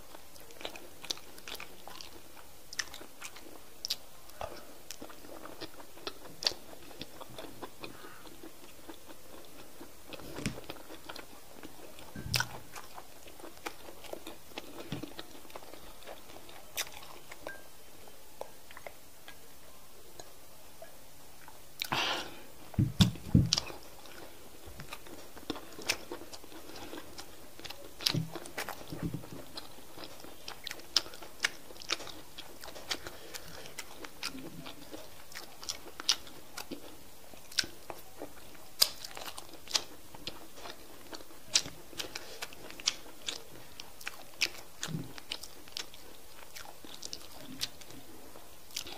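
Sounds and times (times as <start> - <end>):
soft chewing: 0.0 - 48.9.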